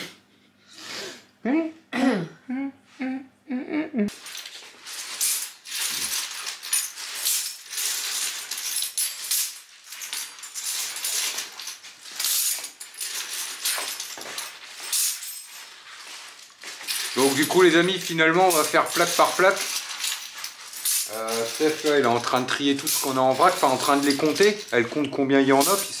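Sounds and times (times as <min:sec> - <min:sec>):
metal capsules clinking: 0:04.1 - 0:26.0.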